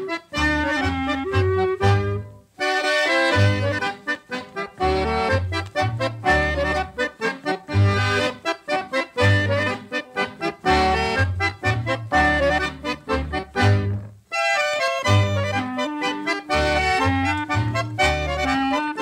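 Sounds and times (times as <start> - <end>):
accordion tune: 0.0 - 19.0
regular bass beat: 0.0 - 19.0.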